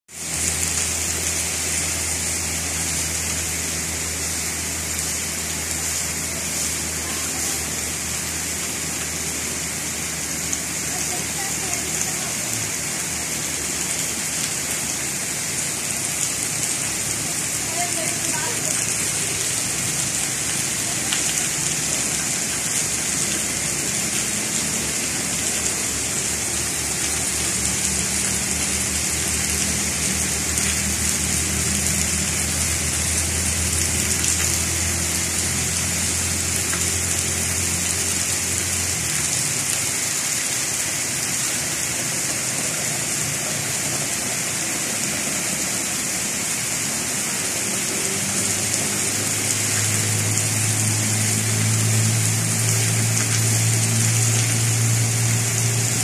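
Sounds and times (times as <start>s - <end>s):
heavy rain pouring: 0.1s - 56.0s.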